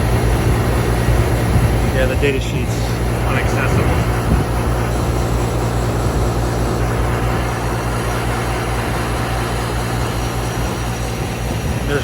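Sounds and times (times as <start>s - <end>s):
compressor hum: 0.0s - 12.0s
condenser fan rushing: 0.0s - 12.0s.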